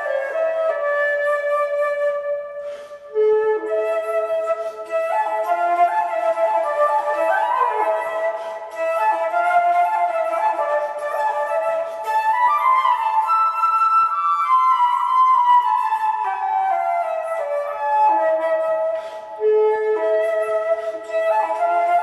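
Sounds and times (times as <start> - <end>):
flutes playing slow music: 0.0 - 22.0.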